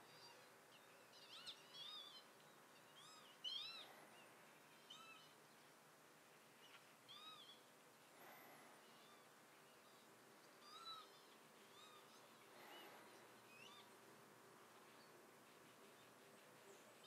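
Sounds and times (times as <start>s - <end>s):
small birds chirping: 0.0s - 17.0s
soft steady hiss: 0.0s - 17.0s.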